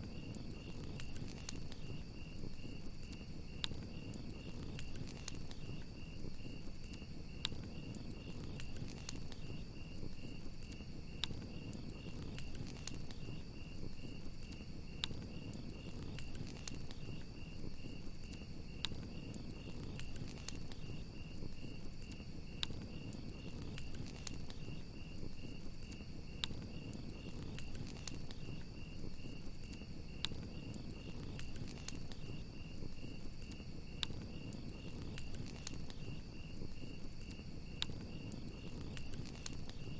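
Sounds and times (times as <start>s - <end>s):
campfire crackling: 0.0s - 39.9s
crickets chirping: 0.0s - 39.9s
fire pops: 0.0s - 39.9s
low rush of flames: 0.0s - 39.9s.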